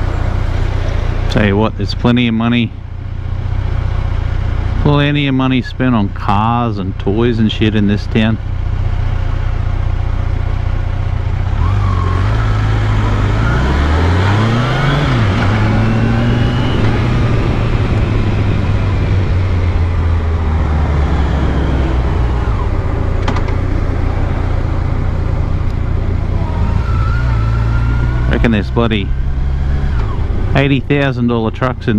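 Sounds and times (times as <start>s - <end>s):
motorcycle engine running: 0.0s - 31.9s
road noise: 0.0s - 31.9s.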